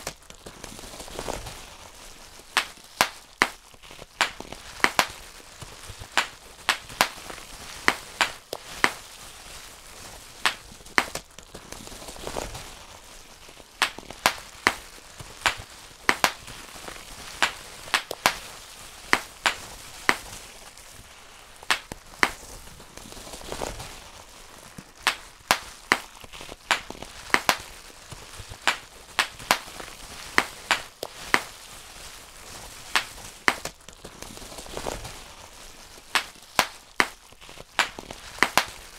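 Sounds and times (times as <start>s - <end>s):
bubble wrap popping: 0.0s - 38.9s.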